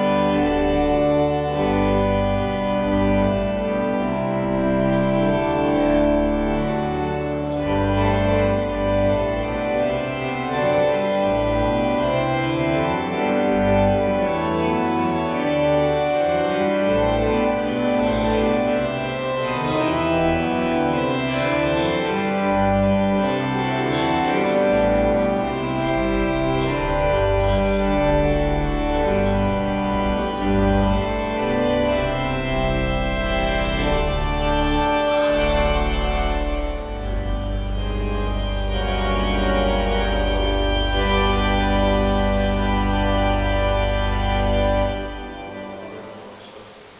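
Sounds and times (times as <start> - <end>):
organ playing a tune: 0.0 - 46.9.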